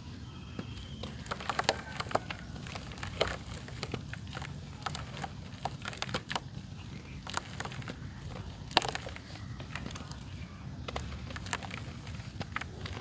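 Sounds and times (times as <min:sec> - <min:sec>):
dry clay crunching and crumbling: 0:00.0 - 0:13.0
steady low hum: 0:00.0 - 0:13.0.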